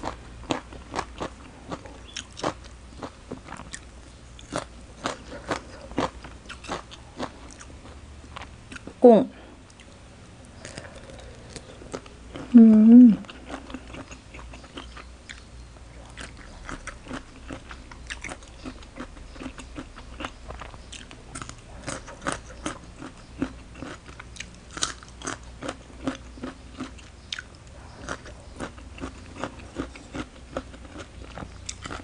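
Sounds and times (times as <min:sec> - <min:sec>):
person chewing crunchy food: 0:00.0 - 0:09.0, 0:09.6 - 0:32.0.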